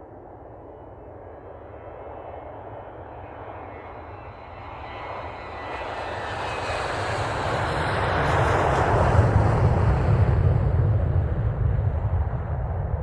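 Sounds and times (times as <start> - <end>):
jet airliner taking off: 0.0 - 13.0.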